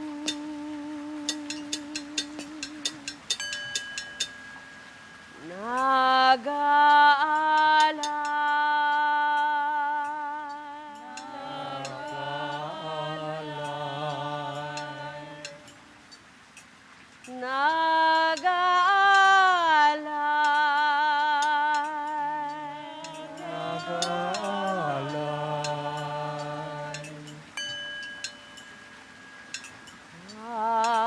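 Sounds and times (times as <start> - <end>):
lower voice chanting: 0.0 - 3.8, 5.4 - 15.8, 17.3 - 27.9, 30.1 - 31.0
wordless layered chant: 0.0 - 16.0, 17.3 - 31.0.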